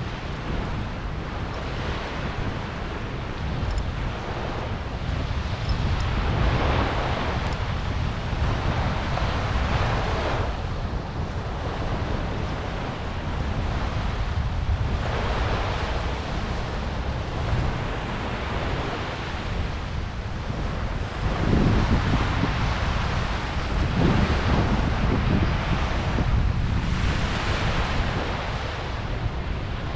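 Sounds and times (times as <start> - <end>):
small waves washing on sand: 0.0 - 29.9
wind rumble on microphone: 0.0 - 29.9.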